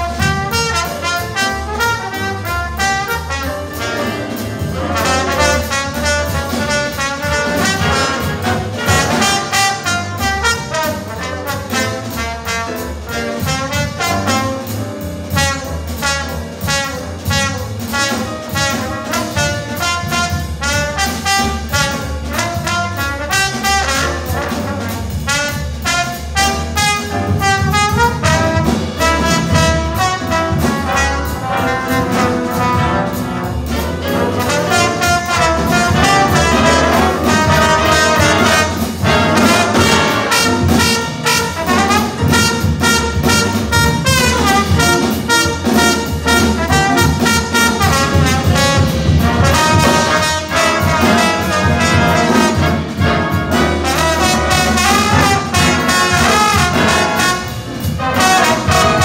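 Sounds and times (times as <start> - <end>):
big band jazz with brass: 0.0 - 59.0
trombones playing: 0.0 - 59.0.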